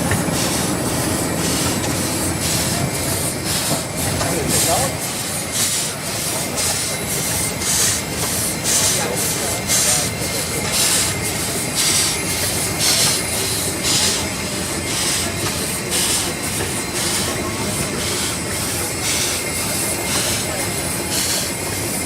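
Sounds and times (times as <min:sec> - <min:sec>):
steam engine exhaust puffing: 0:00.0 - 0:22.0.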